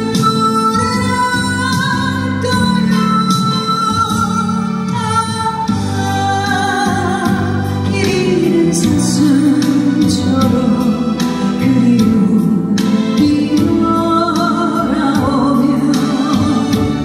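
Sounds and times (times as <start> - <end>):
instrumental backing music: 0.0 - 17.0
woman singing a ballad: 0.0 - 17.0.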